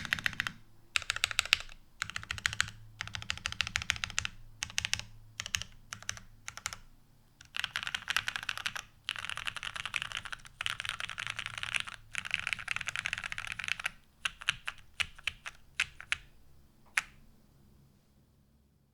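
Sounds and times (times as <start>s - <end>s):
mechanical keyboard typing: 0.0s - 16.3s.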